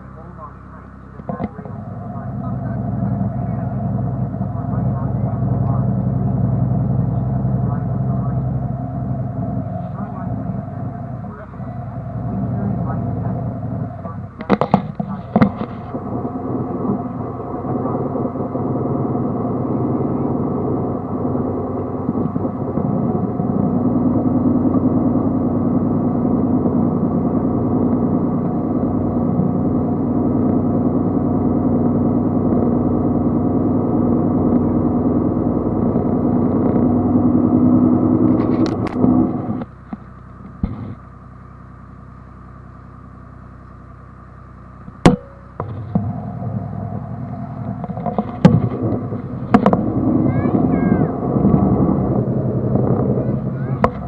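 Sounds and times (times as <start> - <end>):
speedboat engine running: 0.0 - 54.0.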